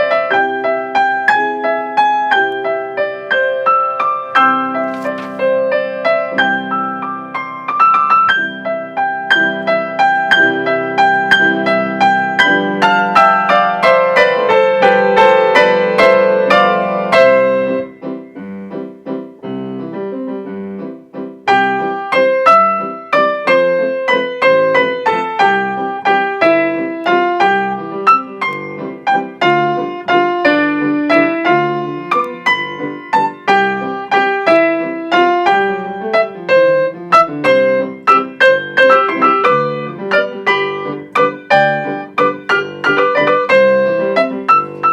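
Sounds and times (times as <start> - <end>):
piano duet: 0.0 - 44.9.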